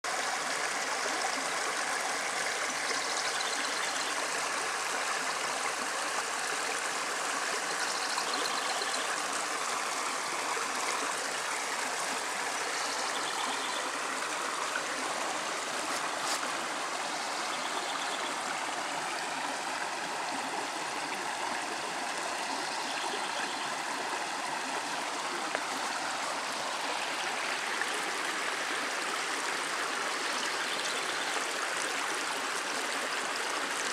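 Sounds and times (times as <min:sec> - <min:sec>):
creek water babbling over rocks: 0:00.0 - 0:33.9.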